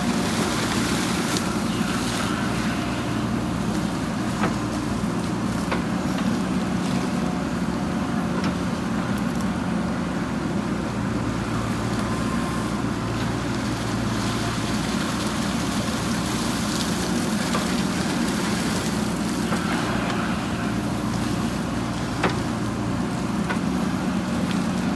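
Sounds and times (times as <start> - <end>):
diesel engine under load: 0.0 - 24.9.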